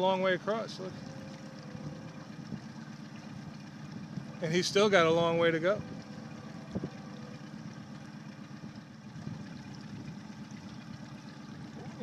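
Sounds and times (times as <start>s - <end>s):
outboard engine idling: 0.0s - 12.0s.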